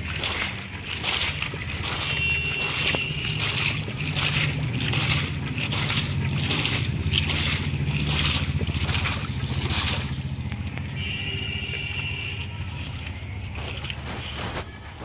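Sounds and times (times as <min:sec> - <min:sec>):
engine running with fast beat: 0:00.0 - 0:15.0.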